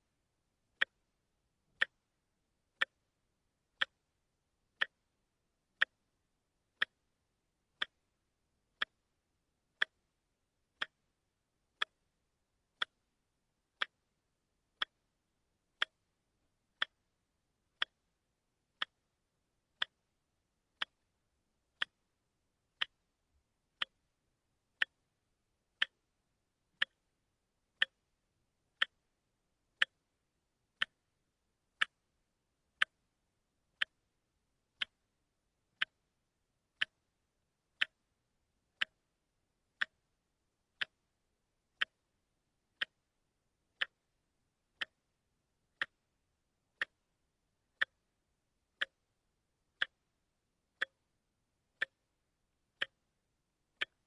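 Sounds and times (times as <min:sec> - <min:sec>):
watch ticking: 0:00.8 - 0:01.1, 0:01.7 - 0:02.1, 0:02.7 - 0:30.2, 0:30.8 - 0:54.0.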